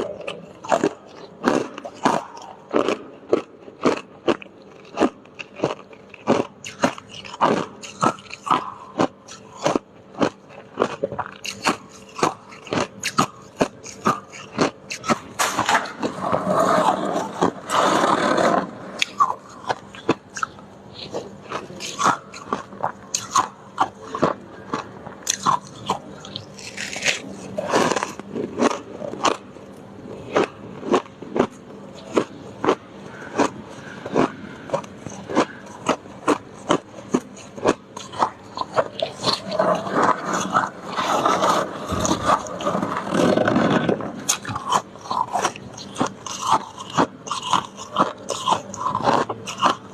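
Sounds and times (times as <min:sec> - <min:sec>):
icicles crunching while chewed: 0:00.0 - 0:49.9.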